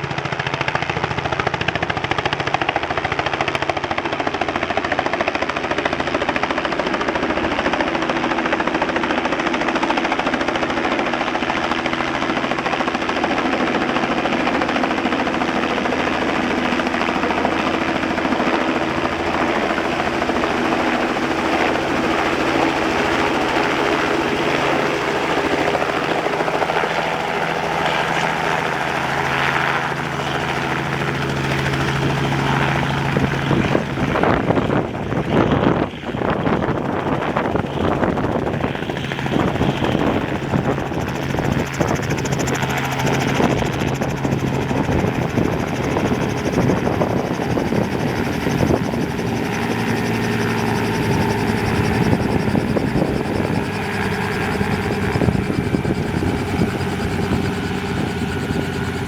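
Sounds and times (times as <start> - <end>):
helicopter engine hum: 0.0 - 59.0
helicopter rotor chop: 0.0 - 59.0.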